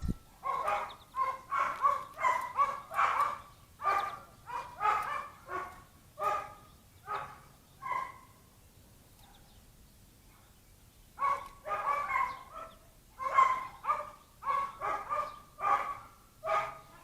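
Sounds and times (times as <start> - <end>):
dog barking: 0.4 - 8.3, 11.2 - 17.0.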